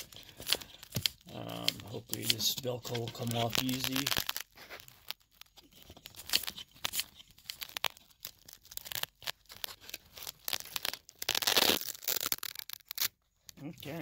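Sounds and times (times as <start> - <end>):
velcro ripping apart: 0.0 - 13.2.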